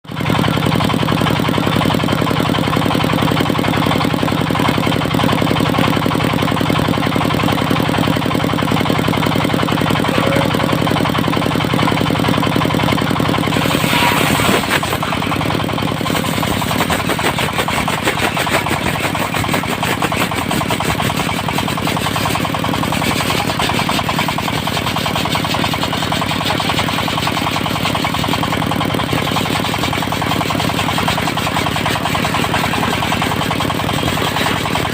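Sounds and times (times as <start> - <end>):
sawmill diesel engine knocking: 0.1 - 34.9.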